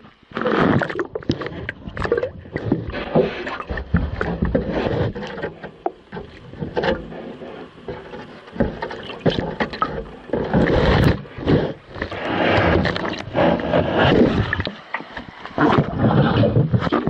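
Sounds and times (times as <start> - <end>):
waves breaking around rocks: 0.0 - 17.0
waves slapping against kayak hull: 0.6 - 17.0.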